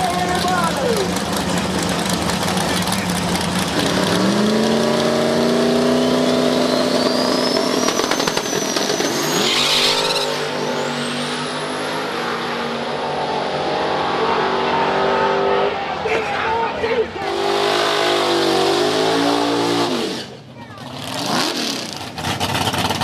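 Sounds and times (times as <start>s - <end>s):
high engine whine: 0.0s - 20.6s
drag race engines revving: 0.0s - 23.0s.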